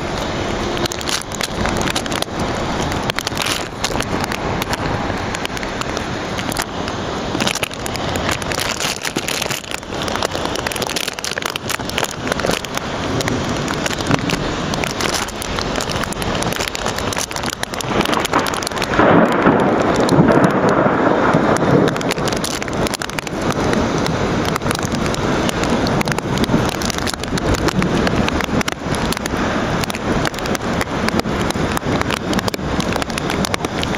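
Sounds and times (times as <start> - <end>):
heavy rain patter: 0.0 - 33.9.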